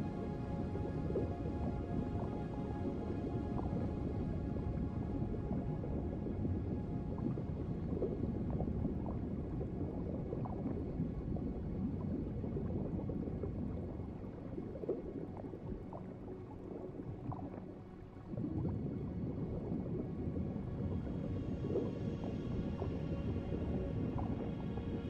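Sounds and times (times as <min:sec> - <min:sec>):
underwater bubbling and gurgling: 0:00.0 - 0:25.0.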